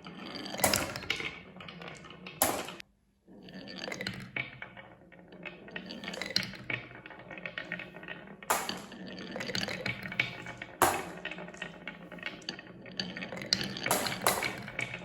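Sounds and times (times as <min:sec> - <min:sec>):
marbles rolling down wooden track: 0:00.0 - 0:15.0.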